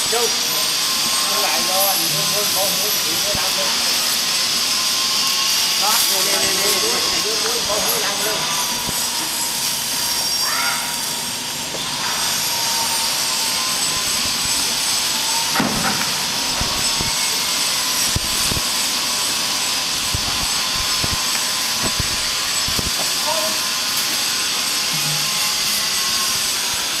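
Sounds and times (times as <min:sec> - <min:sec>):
loud rushing hiss: 0:00.0 - 0:27.0.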